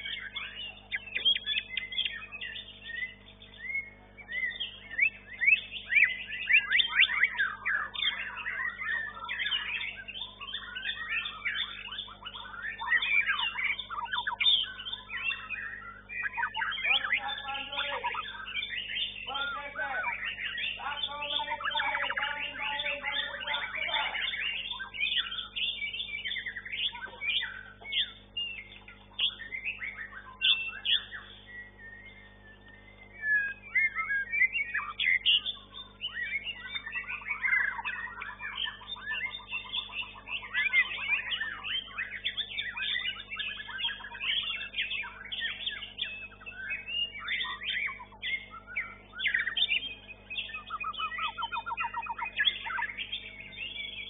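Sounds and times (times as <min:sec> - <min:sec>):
birds singing whistles and trills: 0:00.0 - 0:54.0.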